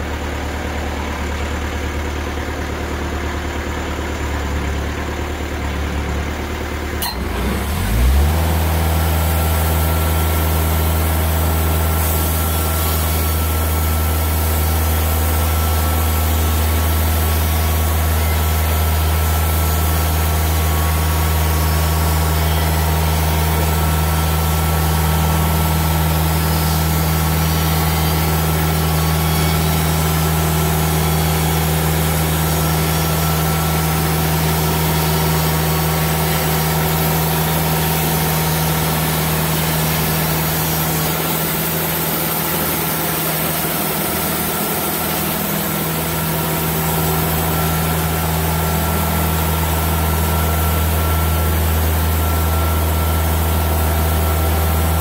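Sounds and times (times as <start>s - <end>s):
diesel engine running: 0.0s - 55.0s
band saw cutting log: 7.0s - 55.0s.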